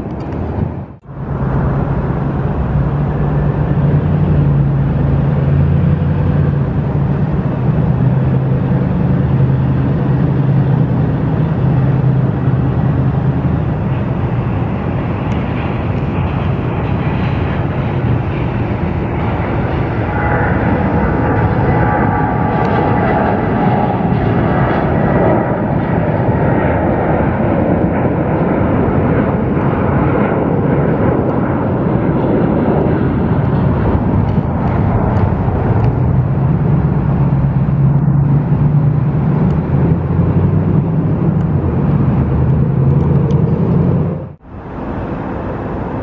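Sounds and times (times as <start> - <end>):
jet engines at takeoff power: 0.0 - 46.0.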